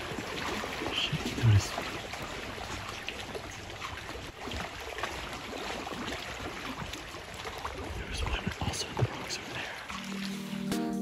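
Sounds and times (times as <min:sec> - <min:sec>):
seawater lapping on rocks: 0:00.0 - 0:10.6
small water splashes and drips: 0:00.0 - 0:10.7.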